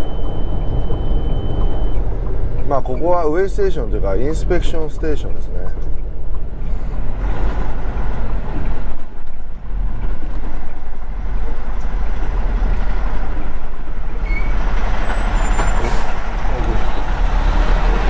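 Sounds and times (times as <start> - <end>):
road and cab noise: 0.0 - 18.0.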